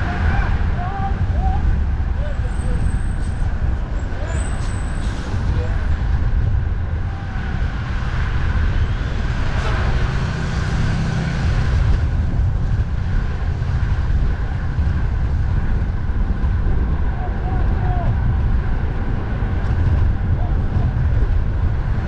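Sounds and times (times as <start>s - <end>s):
road traffic rumble: 0.0s - 22.0s
wind buffeting microphone: 0.0s - 22.0s.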